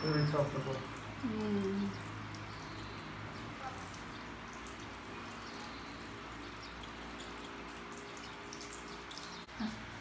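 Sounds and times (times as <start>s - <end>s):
water running from shower sprayer: 0.0s - 10.0s
water splashing into basin: 0.0s - 10.0s.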